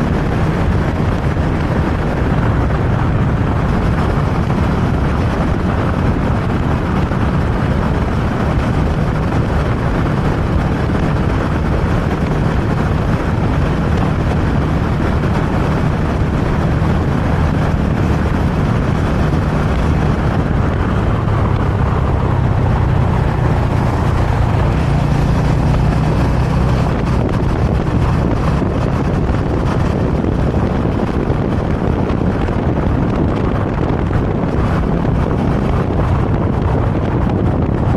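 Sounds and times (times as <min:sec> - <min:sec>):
motorcycle engine running: 0:00.0 - 0:37.9
wind rushing on microphone: 0:00.0 - 0:37.9.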